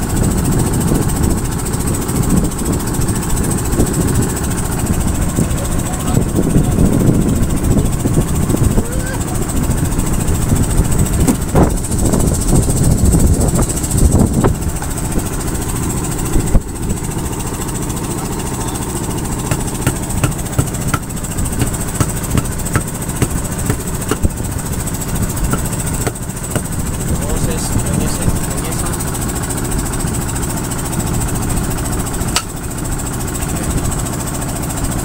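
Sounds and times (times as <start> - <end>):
boat engine running: 0.0 - 35.0.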